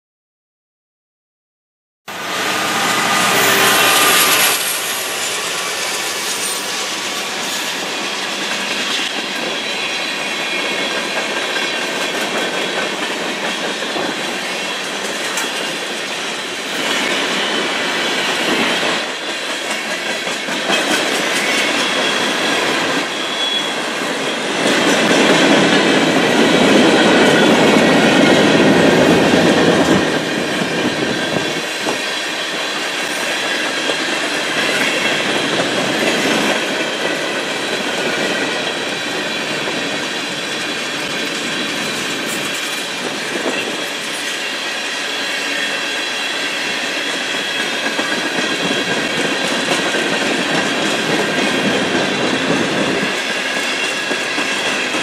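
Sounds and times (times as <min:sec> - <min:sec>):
train wheels rushing on rail: 0:02.1 - 0:55.0.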